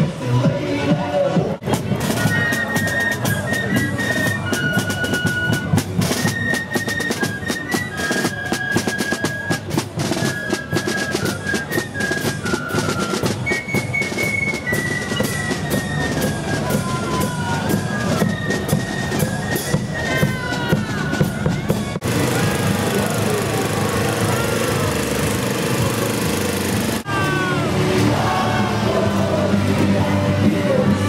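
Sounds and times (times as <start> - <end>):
snare and bass drum: 1.6 - 27.1
fife melody: 1.7 - 29.7.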